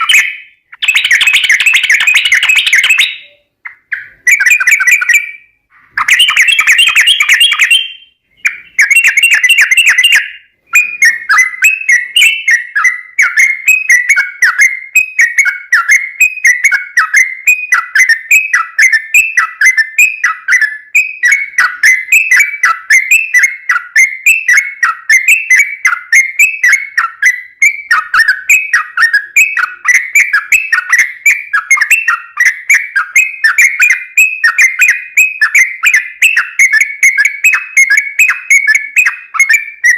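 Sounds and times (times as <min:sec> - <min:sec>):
bird singing: 0:00.0 - 0:39.9
bubbly bird chatter: 0:00.0 - 0:39.9.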